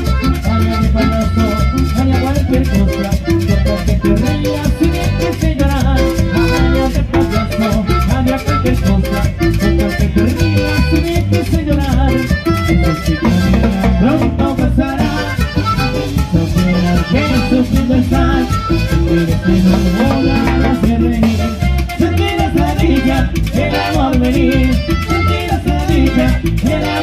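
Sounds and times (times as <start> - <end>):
accordion melody: 0.0 - 27.0
acoustic guitar: 0.0 - 27.0
electric bass: 0.0 - 27.0.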